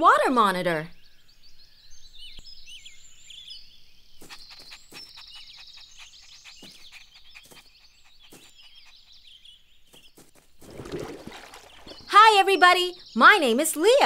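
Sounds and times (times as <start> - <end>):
birds chirping and twittering: 0.0 - 14.0.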